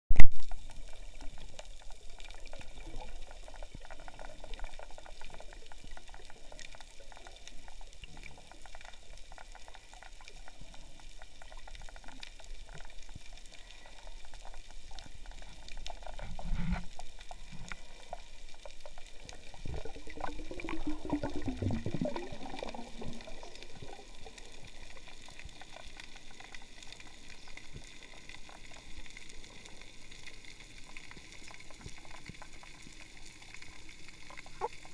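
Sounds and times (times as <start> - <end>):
underwater crackling hiss: 0.4 - 34.9.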